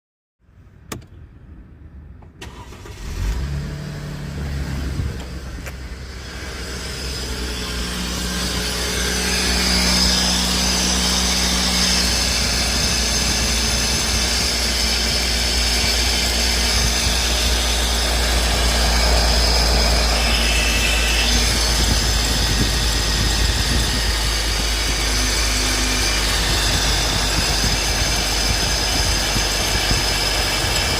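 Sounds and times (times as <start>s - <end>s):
engine starting and droning: 0.9s - 30.9s.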